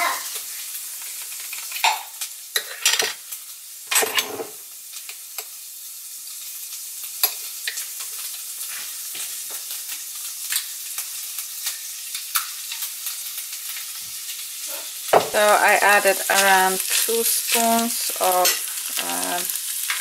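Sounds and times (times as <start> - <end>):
spaghetti sizzling in a pan: 0.0 - 20.0.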